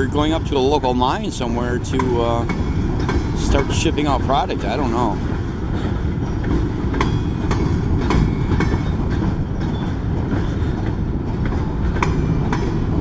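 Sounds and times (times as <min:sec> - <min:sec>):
steel wheels rumbling on rails: 0:00.0 - 0:13.0
wheels clacking over rail joints: 0:00.0 - 0:13.0.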